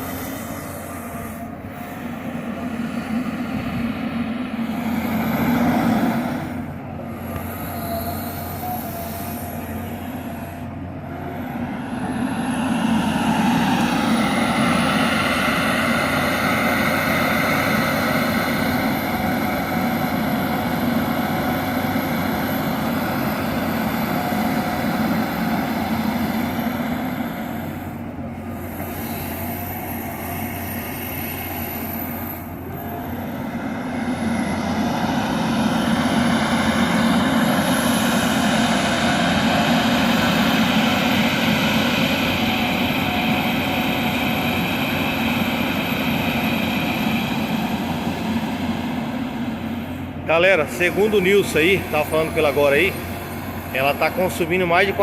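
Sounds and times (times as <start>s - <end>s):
excavator engine humming: 0.0s - 55.0s
hydraulic whine: 0.0s - 55.0s.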